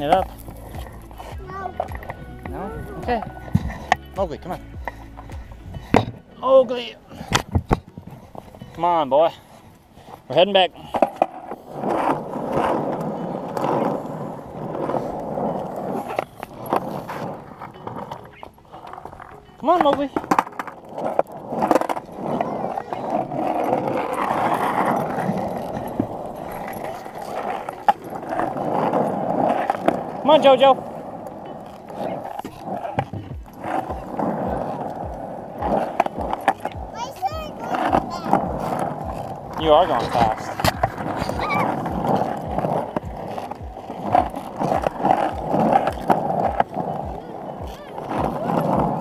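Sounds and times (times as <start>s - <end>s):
skateboard wheels on asphalt: 0.0s - 49.0s.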